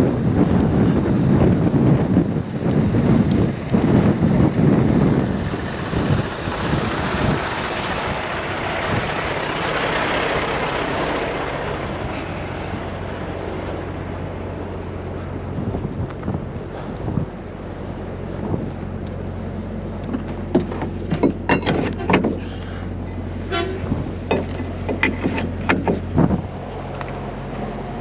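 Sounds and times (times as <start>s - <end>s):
diesel truck engine running: 0.0s - 28.0s
wind buffeting microphone: 0.0s - 28.0s.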